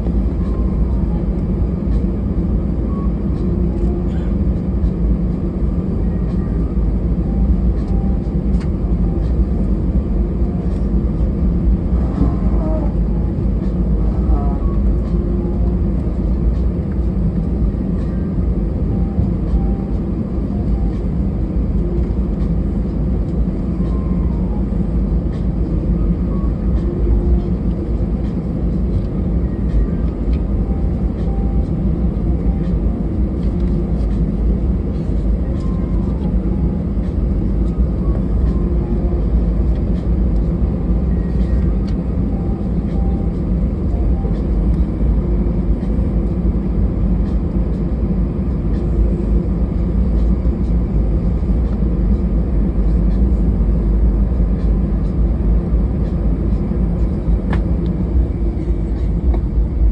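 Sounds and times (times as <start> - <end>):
aircraft engine rumble in cabin: 0.0 - 59.9.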